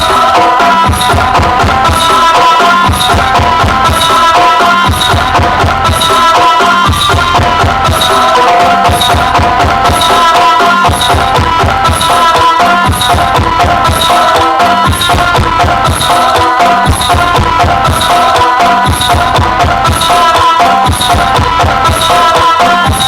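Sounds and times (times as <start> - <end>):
percussion-led folk music: 0.0 - 23.0.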